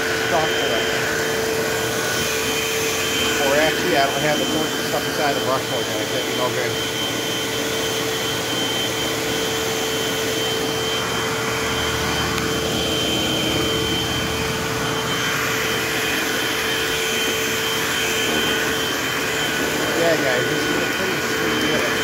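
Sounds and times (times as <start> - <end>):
vacuum cleaner running: 0.0 - 22.0
vacuum cleaner whine: 0.0 - 22.0.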